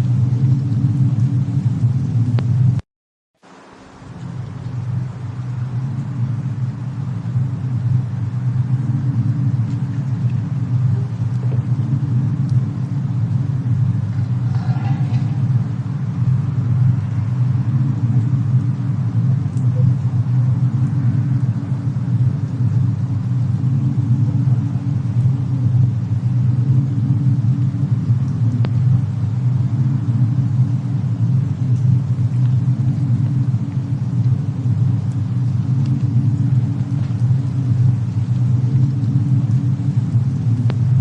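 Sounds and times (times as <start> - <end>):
fire crackling: 0.0 - 2.8, 3.4 - 41.0
storm low rumble: 0.0 - 2.8, 3.4 - 41.0.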